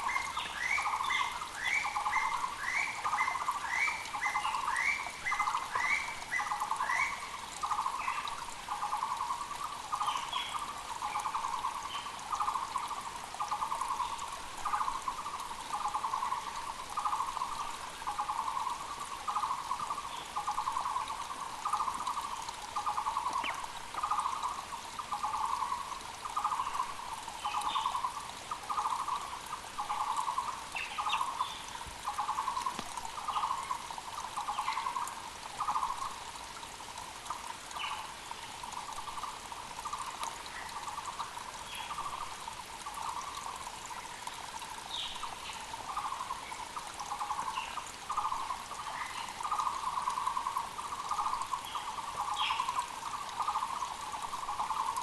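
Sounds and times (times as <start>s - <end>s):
creek rushing: 0.0s - 55.0s.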